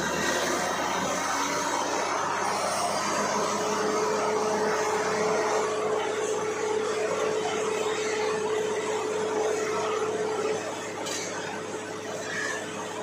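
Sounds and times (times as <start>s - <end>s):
drilling rig running: 0.0s - 13.0s
steady hum: 0.0s - 13.0s.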